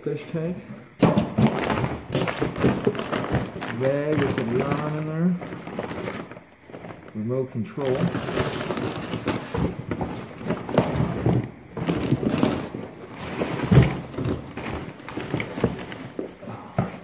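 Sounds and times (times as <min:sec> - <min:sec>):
objects knocking in cardboard box: 0:01.0 - 0:07.0, 0:07.9 - 0:17.0
bags and wrapping rustling: 0:01.0 - 0:17.0.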